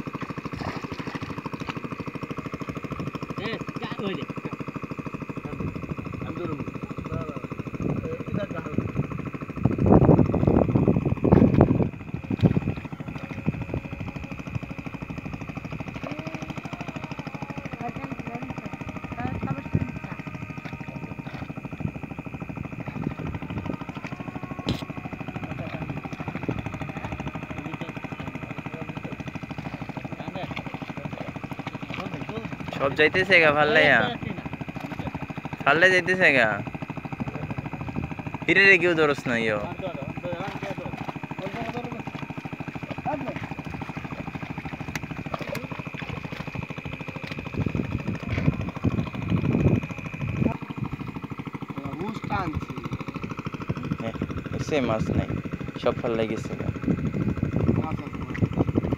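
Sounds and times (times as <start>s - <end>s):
water splashing and sloshing: 0.0s - 6.8s, 10.9s - 35.6s, 36.2s - 54.8s
high whine: 0.0s - 58.9s
small engine running: 0.0s - 58.9s.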